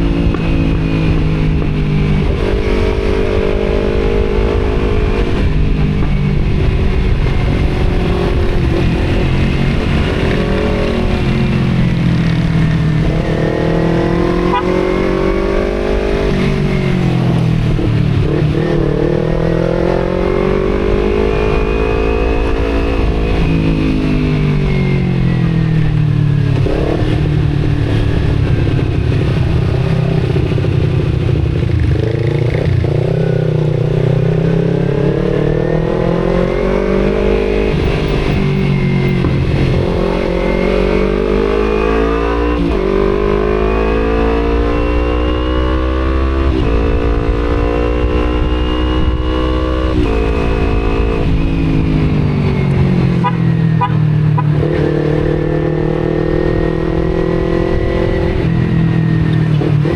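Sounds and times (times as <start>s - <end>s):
motorcycle engine revving while riding: 0.0s - 59.9s.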